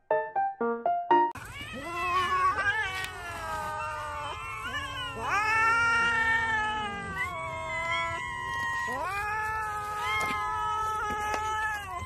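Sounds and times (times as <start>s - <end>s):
cats meowing: 1.4s - 12.0s.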